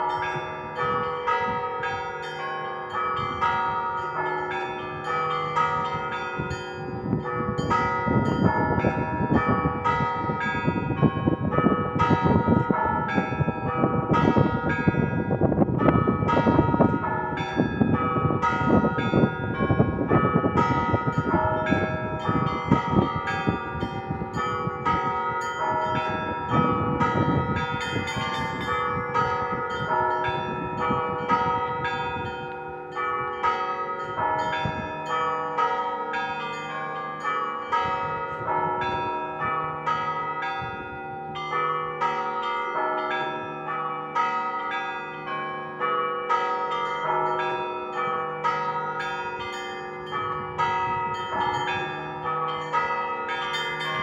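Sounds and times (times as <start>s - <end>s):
deep bell tolling: 0.0s - 54.0s
small church bells pealing: 0.0s - 54.0s.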